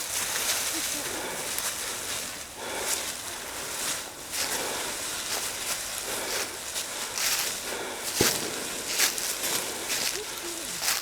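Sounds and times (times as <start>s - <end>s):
dry leaves crunching underfoot: 0.0s - 11.0s.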